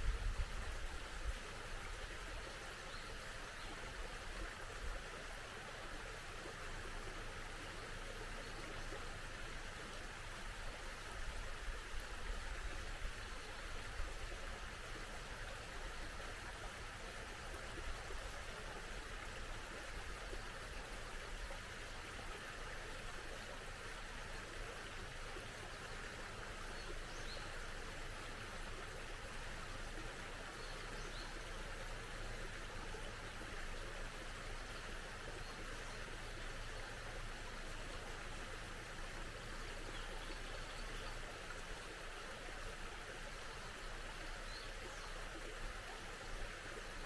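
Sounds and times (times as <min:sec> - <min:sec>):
small stream running: 0:00.0 - 0:47.0.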